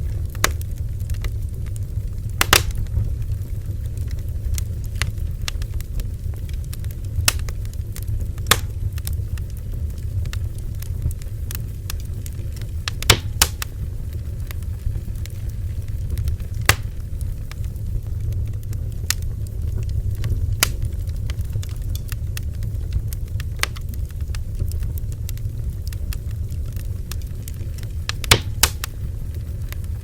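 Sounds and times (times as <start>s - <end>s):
bonfire rumbling: 0.0s - 30.0s
burning wood crackling and popping: 0.0s - 30.0s.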